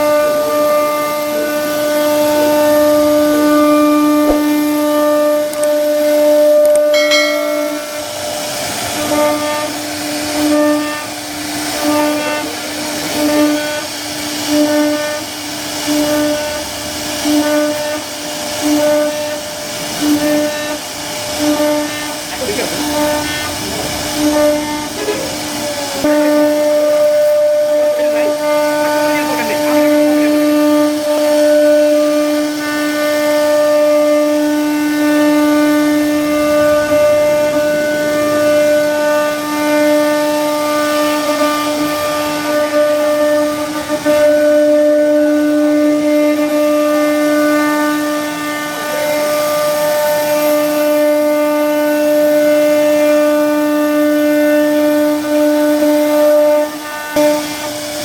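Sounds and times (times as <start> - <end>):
wood router spindle whining: 0.0 - 58.0.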